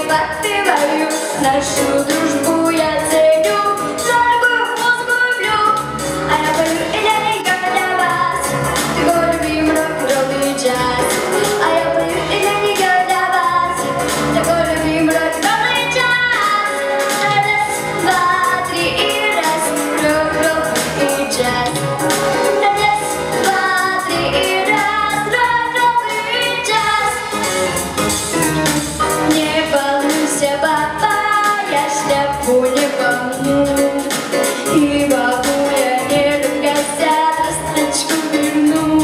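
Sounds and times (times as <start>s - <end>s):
girl singing into microphone: 0.0s - 27.5s, 29.3s - 39.0s
recorded backing track: 0.0s - 39.0s.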